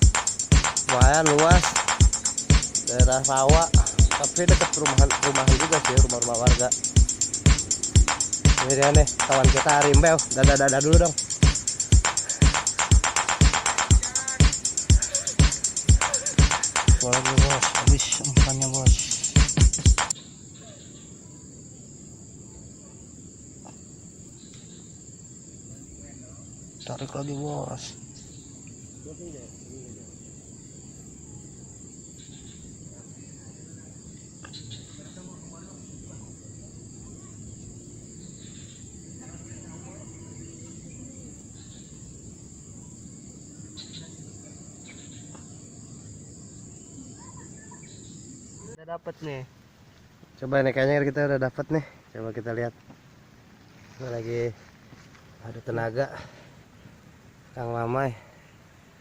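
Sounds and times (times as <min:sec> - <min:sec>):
high-pitched insect drone: 0:00.0 - 0:49.4
crickets trilling: 0:00.0 - 0:59.0
faint low hiss: 0:00.0 - 0:59.0.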